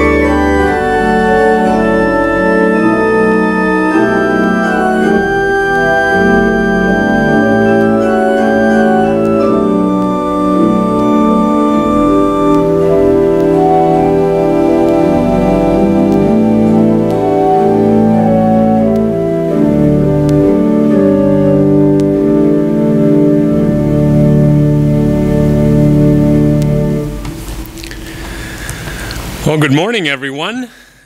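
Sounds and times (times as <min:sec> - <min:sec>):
deep organ bass notes: 0:00.0 - 0:30.0
pipe organ playing held chords: 0:00.0 - 0:30.0.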